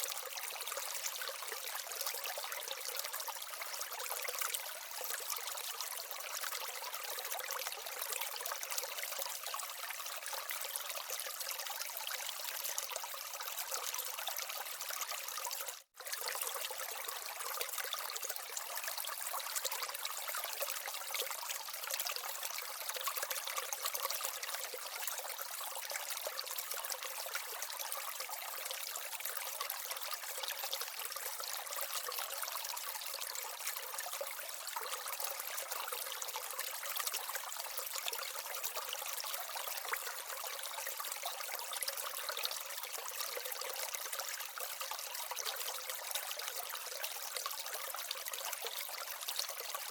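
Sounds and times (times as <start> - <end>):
water trickling in small waterfall: 0.0 - 49.9.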